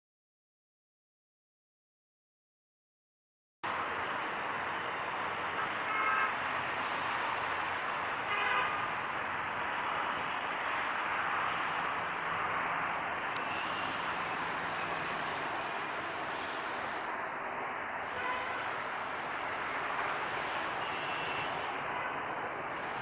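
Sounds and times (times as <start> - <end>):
urban traffic hum: 3.6 - 23.0.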